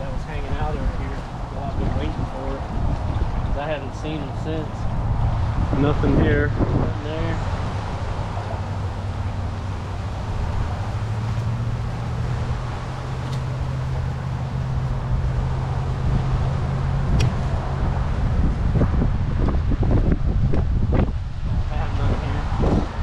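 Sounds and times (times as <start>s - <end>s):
vehicle engine hum: 0.0s - 23.0s
wind on microphone: 0.0s - 23.0s.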